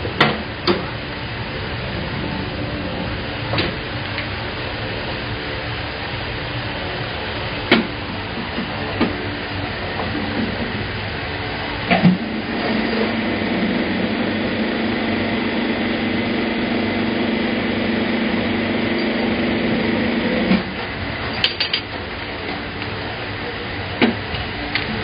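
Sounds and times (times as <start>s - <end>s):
crimping machine humming: 0.0s - 25.0s.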